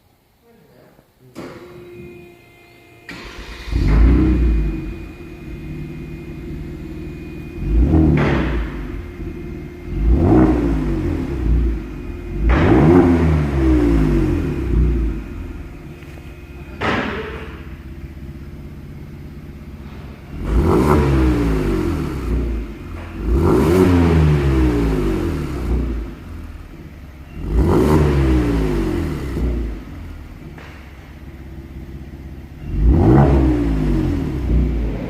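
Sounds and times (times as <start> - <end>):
car engine revving: 3.1 - 35.0
sharp exhaust crack: 3.1 - 35.0.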